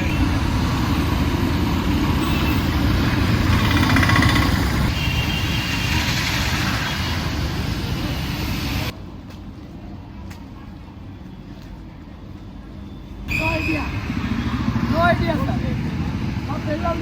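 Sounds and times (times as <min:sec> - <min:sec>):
busy road traffic rumble: 0:00.0 - 0:17.0
quiet street sound: 0:00.0 - 0:17.0.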